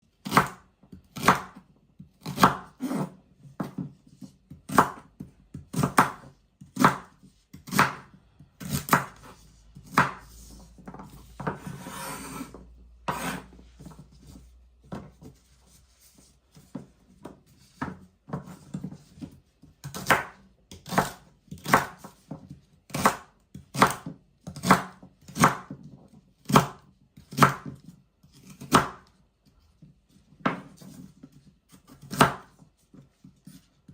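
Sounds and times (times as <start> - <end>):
knife chopping on cutting board: 0.2 - 15.4, 16.5 - 29.1, 30.4 - 33.9.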